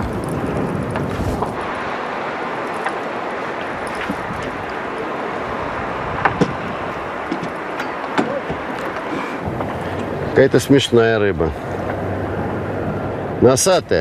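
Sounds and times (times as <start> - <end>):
sea noise: 0.0 - 14.0
wind: 0.0 - 14.0.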